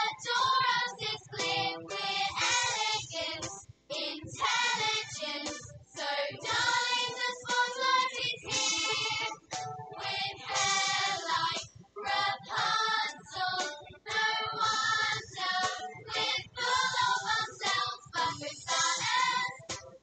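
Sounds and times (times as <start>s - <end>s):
young choir singing: 0.0s - 9.4s, 10.0s - 19.6s
instrumental backing music: 0.0s - 20.0s.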